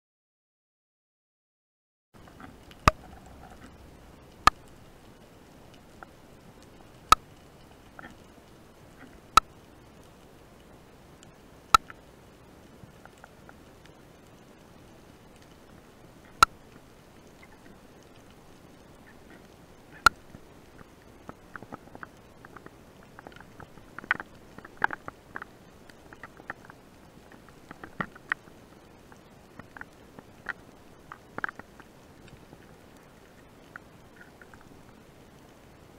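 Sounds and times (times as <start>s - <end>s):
sharp underwater clicks: 2.2s - 15.6s, 16.2s - 35.6s
steady low hiss: 2.2s - 35.9s.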